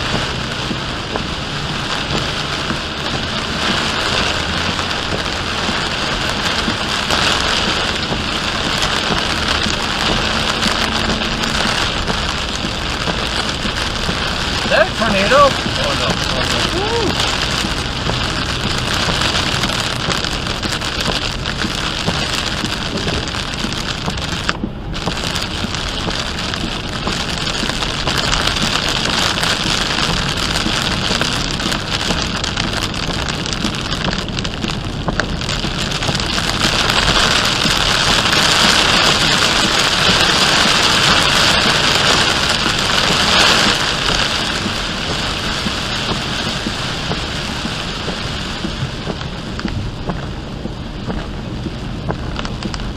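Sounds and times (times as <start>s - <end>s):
heavy rain on a car: 0.0s - 52.9s
tyres hissing on wet road: 0.0s - 52.9s.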